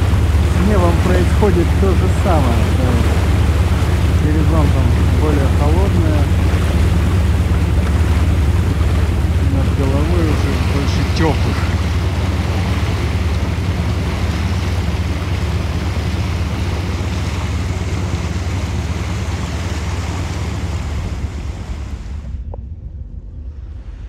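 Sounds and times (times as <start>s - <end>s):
water rushing from wake: 0.0s - 22.6s
boat engine humming: 0.0s - 23.8s.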